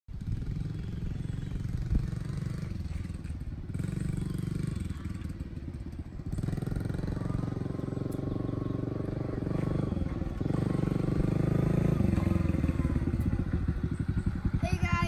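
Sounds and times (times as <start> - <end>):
dirt bike engine running: 0.1 - 15.0.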